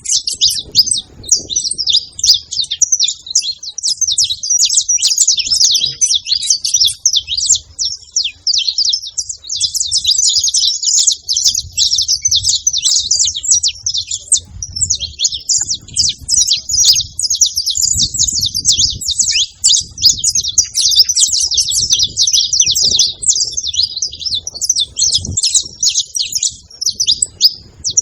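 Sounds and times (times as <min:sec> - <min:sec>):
finch chirps and trills: 0:00.0 - 0:28.0.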